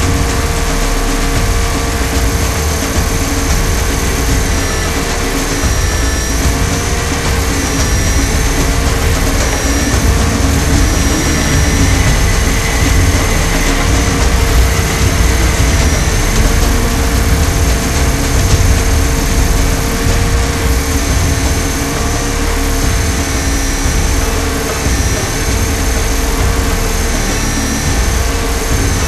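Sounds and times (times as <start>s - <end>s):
low rushing noise: 0.0s - 29.0s
model helicopter motor and rotor whine: 0.0s - 29.0s.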